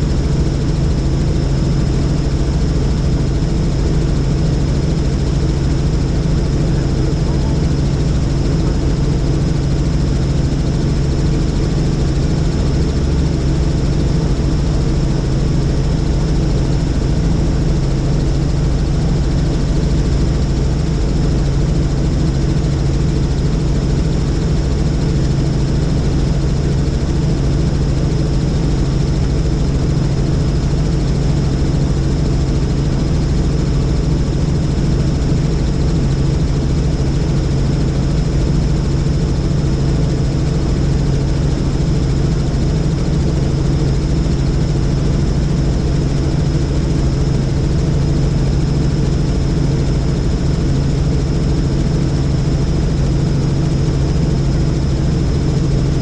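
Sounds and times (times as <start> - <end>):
helicopter drone: 0.0 - 56.0.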